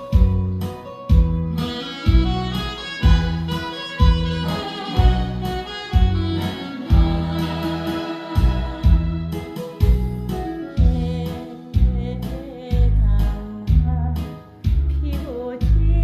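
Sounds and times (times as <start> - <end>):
heavy bass beat: 0.1 - 16.0.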